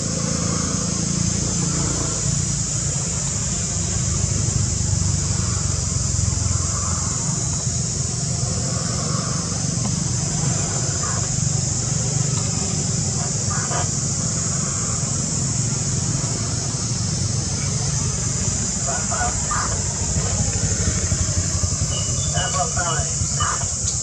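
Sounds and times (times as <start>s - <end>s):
constant low rumble: 0.0s - 24.0s
continuous high hiss: 0.0s - 24.0s.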